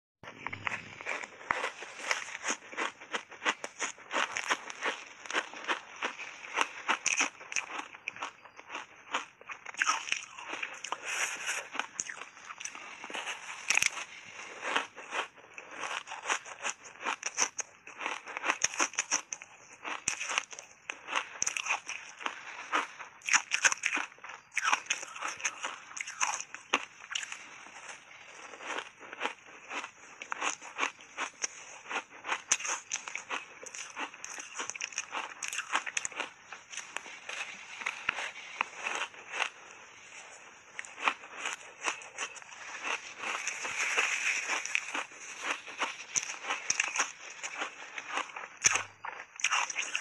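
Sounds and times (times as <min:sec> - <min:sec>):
crunching ice: 0:00.3 - 0:50.0.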